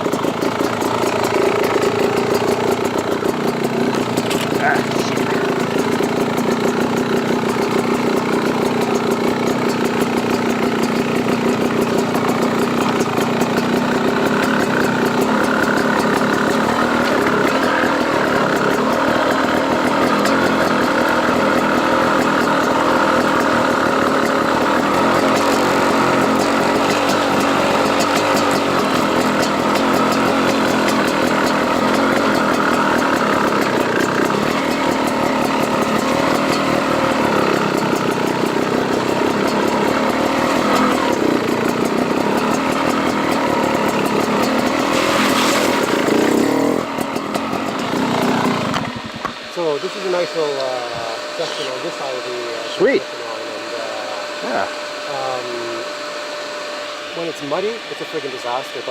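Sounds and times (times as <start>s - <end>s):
dirt bike engine idling: 0.0s - 58.9s.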